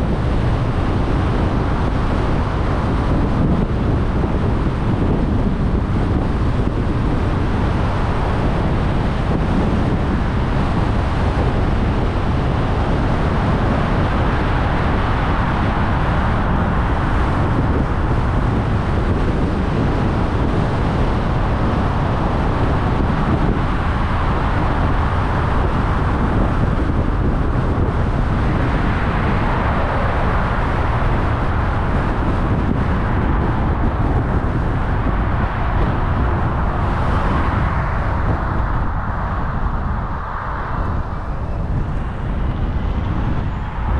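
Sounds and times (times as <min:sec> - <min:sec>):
car engine hum: 0:00.0 - 0:43.9
tyre and wind noise: 0:00.0 - 0:43.9.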